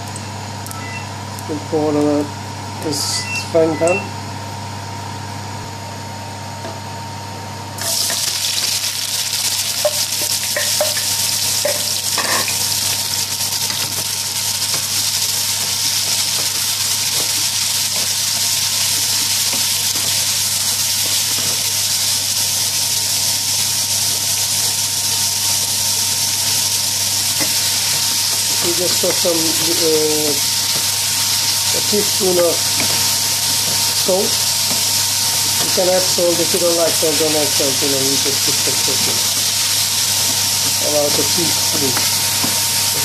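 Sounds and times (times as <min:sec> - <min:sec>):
onions sizzling in oil: 0:07.8 - 0:43.0.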